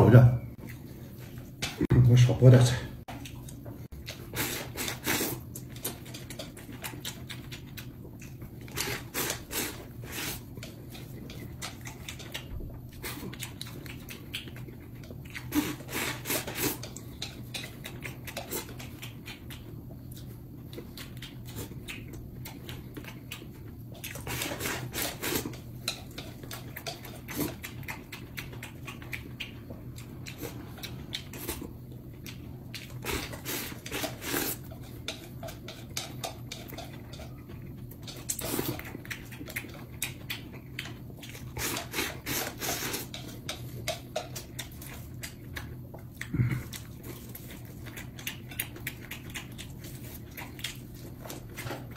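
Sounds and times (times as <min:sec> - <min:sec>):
wet smacking chewing: 0:03.1 - 0:51.9.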